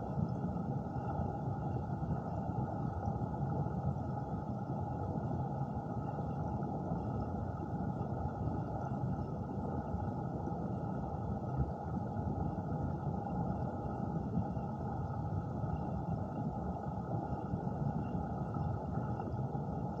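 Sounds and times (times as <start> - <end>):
muffled underwater water rush: 0.0 - 20.0.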